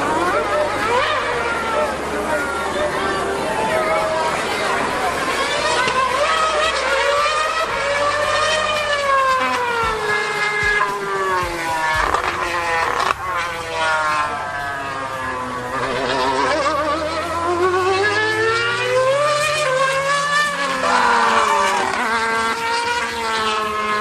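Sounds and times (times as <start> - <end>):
racing car engine at high revs: 0.0 - 24.0.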